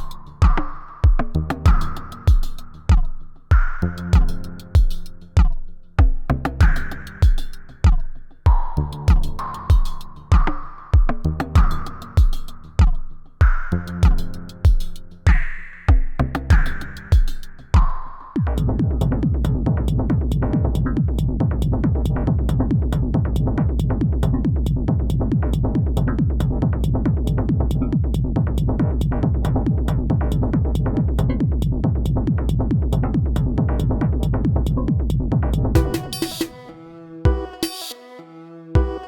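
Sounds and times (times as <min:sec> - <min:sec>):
pulsing low bass: 0:00.0 - 0:36.6
driving electronic loop: 0:00.0 - 0:38.0, 0:38.8 - 0:39.0.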